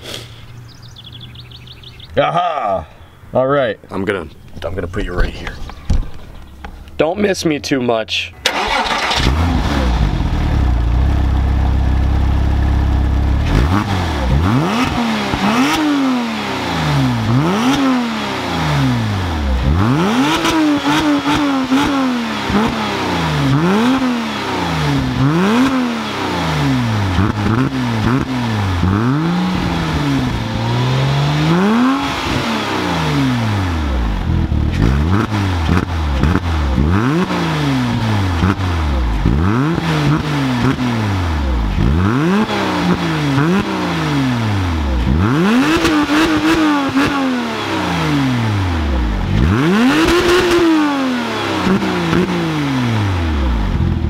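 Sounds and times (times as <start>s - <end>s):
car engine revving: 8.5s - 54.0s.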